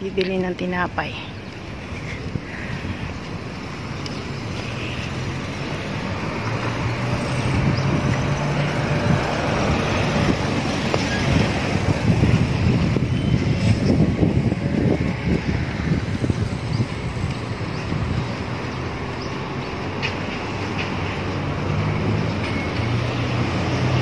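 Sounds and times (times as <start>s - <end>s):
wind buffeting microphone: 0.0s - 22.4s
street traffic: 0.0s - 24.0s.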